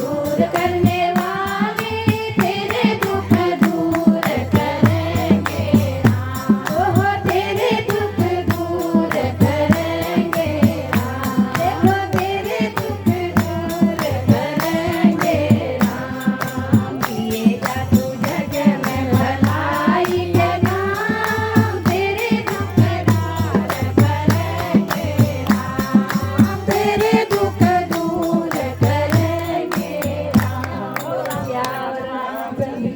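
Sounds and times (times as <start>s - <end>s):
hand percussion rhythm: 0.0s - 32.9s
woman singing devotional song: 0.0s - 32.9s.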